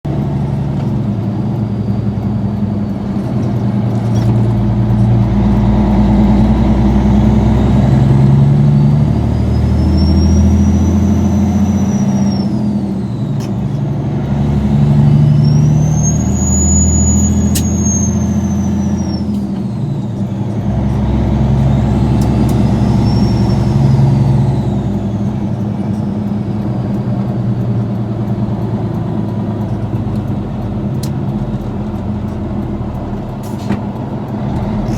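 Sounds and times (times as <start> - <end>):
diesel engine running: 0.0 - 34.9
turbocharger whistling: 1.2 - 34.9.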